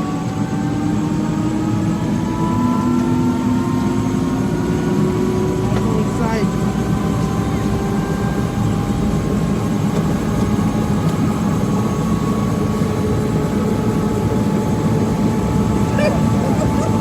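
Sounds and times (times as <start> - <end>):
helicopter turbine and rotor: 0.0 - 17.0.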